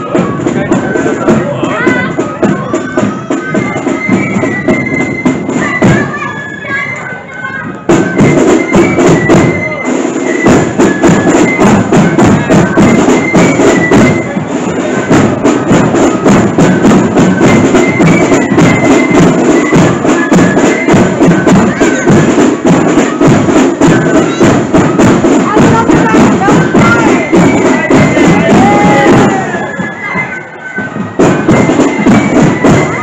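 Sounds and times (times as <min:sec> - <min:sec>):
snare and bass drums: 0:00.0 - 0:06.3, 0:07.6 - 0:33.0
flutes playing melody: 0:00.0 - 0:33.0.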